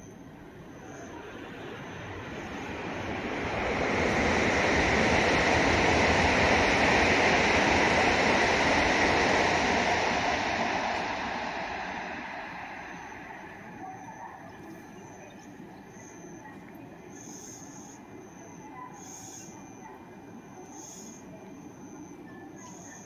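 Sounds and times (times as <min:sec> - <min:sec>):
electric train running past: 0:00.0 - 0:23.0.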